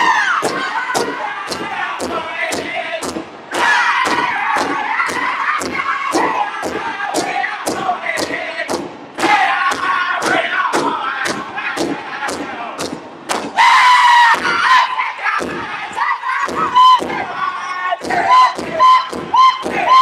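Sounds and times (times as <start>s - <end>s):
men chanting: 0.0s - 12.8s, 13.6s - 20.0s
large drum beating: 0.0s - 13.6s, 15.4s - 15.8s, 16.4s - 17.4s, 18.0s - 20.0s.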